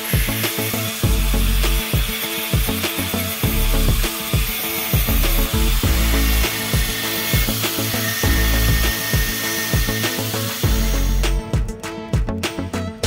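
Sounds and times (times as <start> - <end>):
angle grinder cutting steel: 0.0 - 11.6
background music with beat: 0.0 - 13.0.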